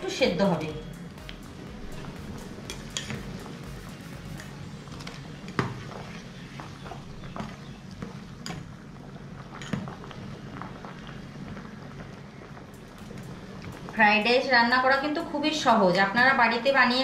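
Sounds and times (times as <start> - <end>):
rice boiling bubbling: 0.0 - 17.0.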